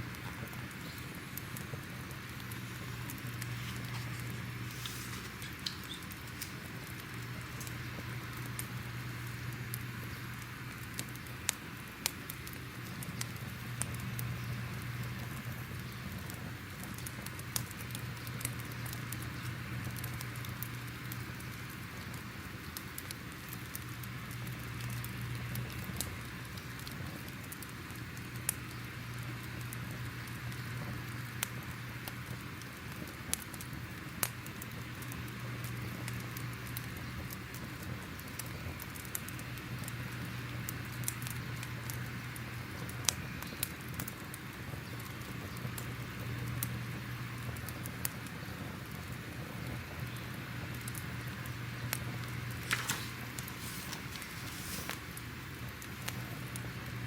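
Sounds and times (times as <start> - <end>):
crackling fire: 0.0 - 57.0.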